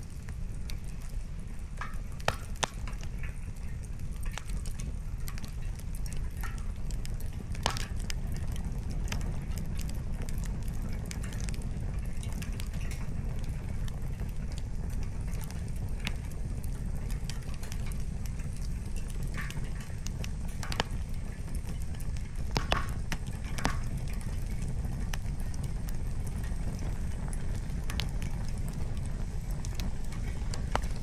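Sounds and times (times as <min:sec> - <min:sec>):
firewood crackling and popping: 0:00.0 - 0:31.0
low fire rumble: 0:00.0 - 0:31.0.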